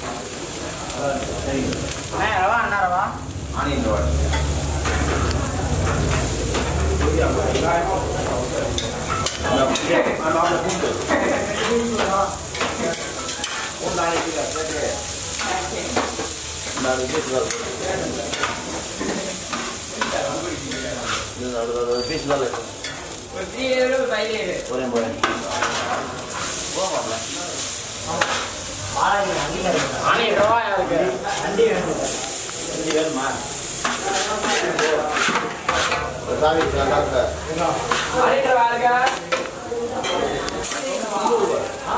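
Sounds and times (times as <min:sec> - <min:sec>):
batter sizzling on a griddle: 0:00.0 - 0:41.9.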